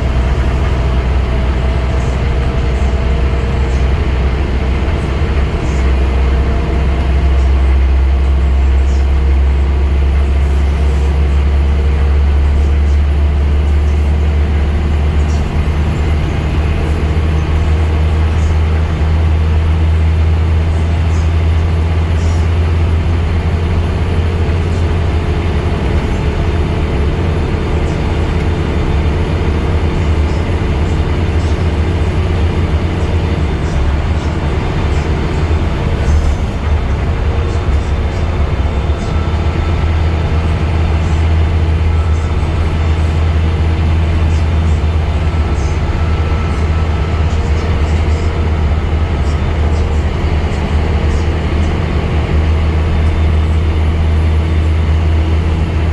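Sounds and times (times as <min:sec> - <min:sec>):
bus diesel engine drone: 0:00.0 - 0:55.9.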